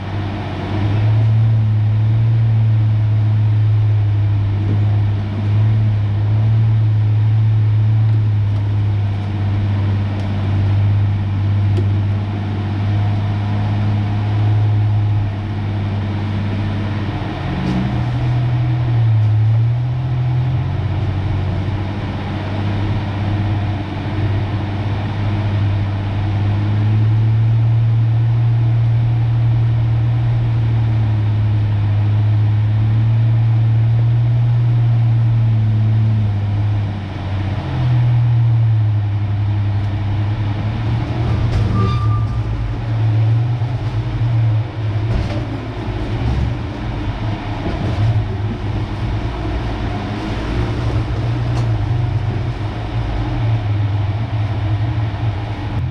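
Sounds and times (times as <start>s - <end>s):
pickup truck engine drone: 0.0s - 55.9s.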